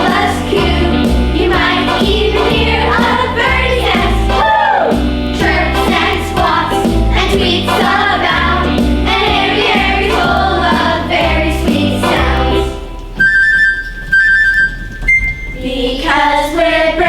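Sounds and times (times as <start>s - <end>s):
choir singing upbeat song: 0.0s - 12.9s, 15.6s - 17.0s
instrumental accompaniment with bass: 0.0s - 15.5s.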